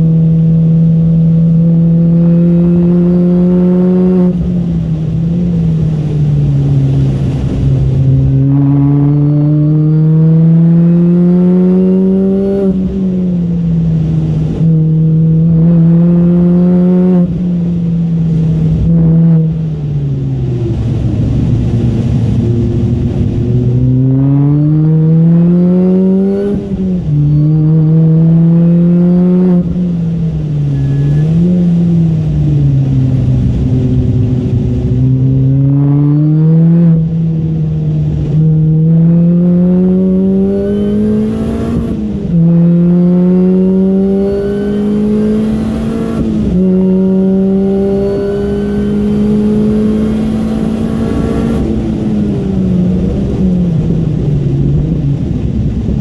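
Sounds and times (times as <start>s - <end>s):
car engine revving hard: 0.0s - 19.8s, 20.7s - 54.0s.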